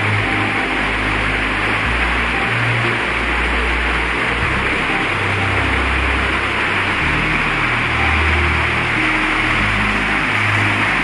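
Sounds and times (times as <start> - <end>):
low background music: 0.0 - 11.0
waterfall rushing: 0.0 - 11.0.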